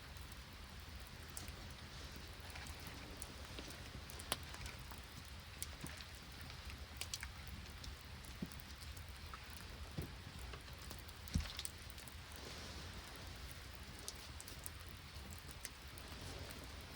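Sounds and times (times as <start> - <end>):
rain and wet snow pattering: 0.0 - 16.9.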